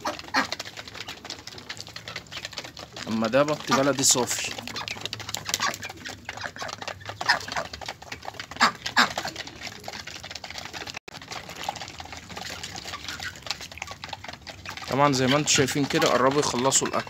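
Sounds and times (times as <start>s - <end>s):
beaks pecking at plastic dishes: 0.0s - 17.0s.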